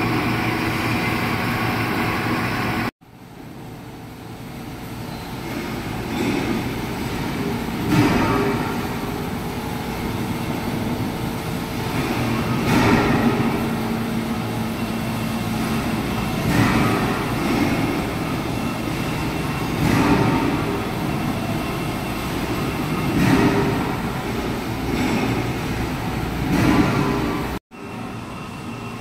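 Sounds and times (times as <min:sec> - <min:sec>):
lathe mechanical rumble: 0:00.0 - 0:29.0.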